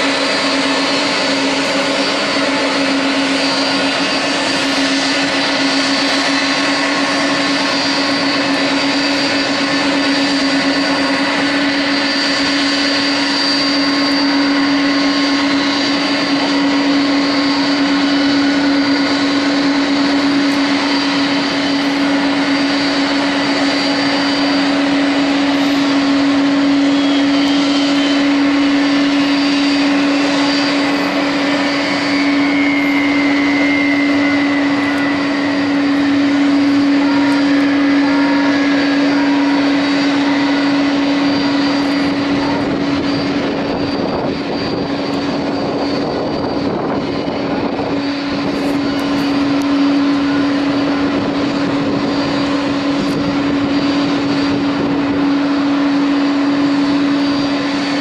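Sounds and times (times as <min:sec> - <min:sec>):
high jet engine whine: 0:00.0 - 0:58.0
jet airliner hum: 0:00.0 - 0:58.0
whine falling in pitch: 0:00.0 - 0:58.0.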